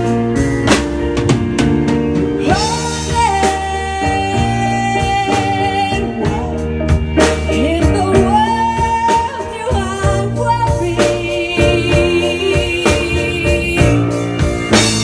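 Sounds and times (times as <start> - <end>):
live band playing: 0.0 - 15.0
person singing: 2.4 - 14.7.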